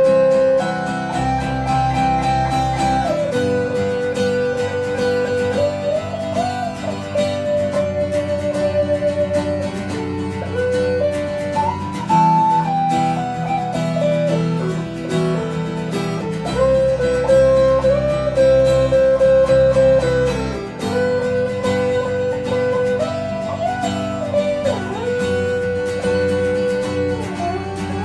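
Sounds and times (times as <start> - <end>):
sliding lead melody: 0.0 - 28.0
strummed acoustic guitar: 0.0 - 28.0.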